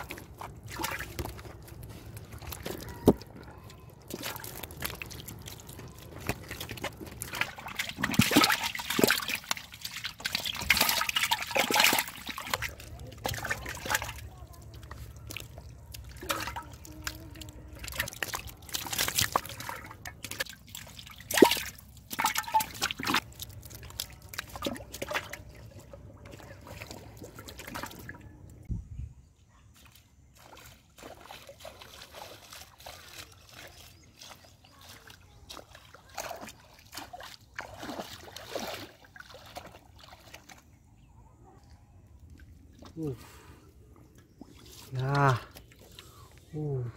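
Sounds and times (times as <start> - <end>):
water and mud splashing: 0.0 - 28.7, 29.8 - 46.9.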